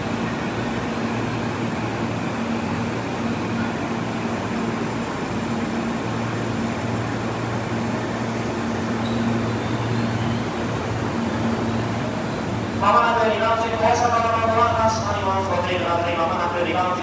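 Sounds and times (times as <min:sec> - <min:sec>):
train air conditioning hum: 0:00.0 - 0:17.0.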